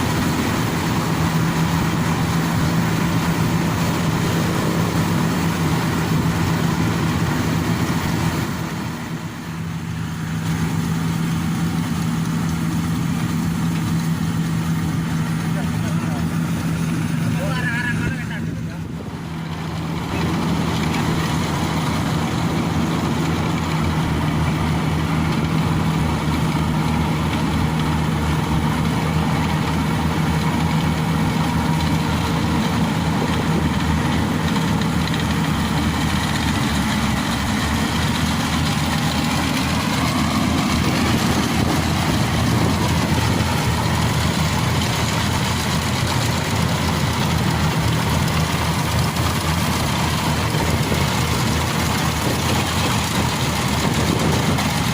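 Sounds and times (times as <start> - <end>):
diesel engine humming: 0.0 - 54.9.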